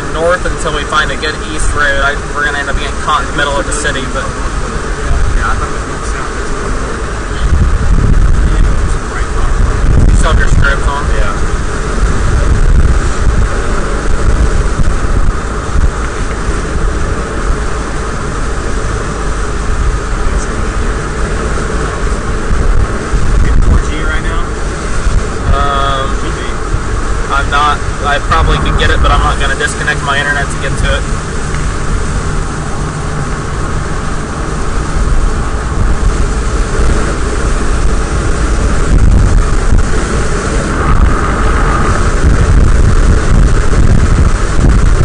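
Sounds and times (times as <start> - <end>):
engine and tyre rumble: 0.0 - 45.0
wind noise: 0.0 - 45.0.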